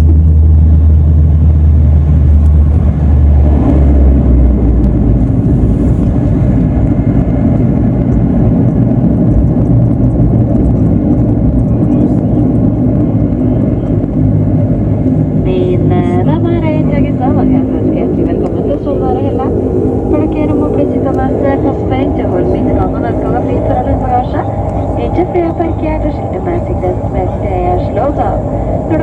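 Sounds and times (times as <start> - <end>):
propeller engines droning: 0.0 - 29.0.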